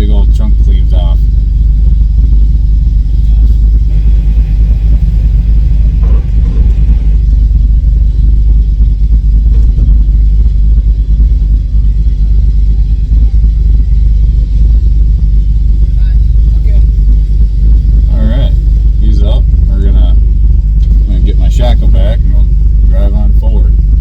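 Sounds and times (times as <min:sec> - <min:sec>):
off-road vehicle rumbling: 0:00.0 - 0:24.0.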